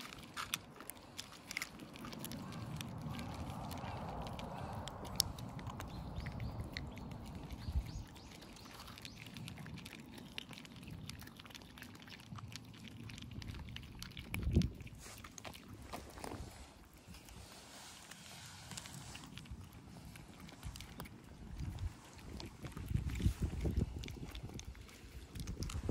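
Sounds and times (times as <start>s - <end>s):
cats chewing: 0.0s - 25.9s
low rumbling background: 0.0s - 25.9s.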